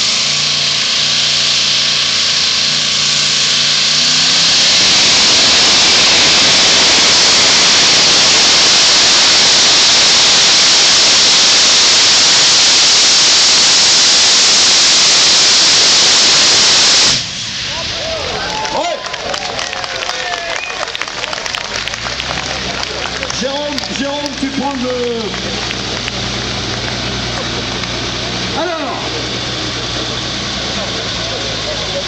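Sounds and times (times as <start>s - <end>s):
tractor engine at full throttle: 0.0s - 32.0s.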